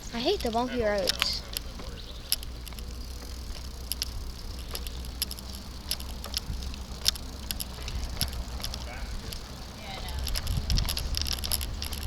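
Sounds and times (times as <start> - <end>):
bicycle rattling and clicking: 0.0 - 12.0
steady low rumble: 0.0 - 12.0.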